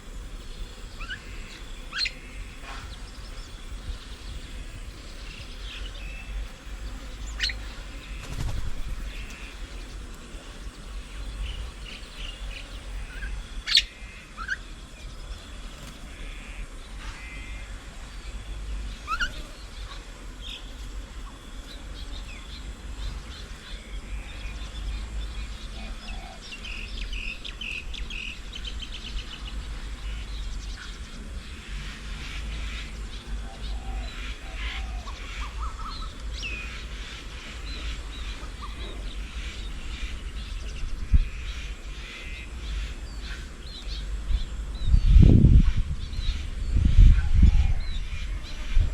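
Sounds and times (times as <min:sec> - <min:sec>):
wild birds chirping: 0:00.0 - 0:48.9.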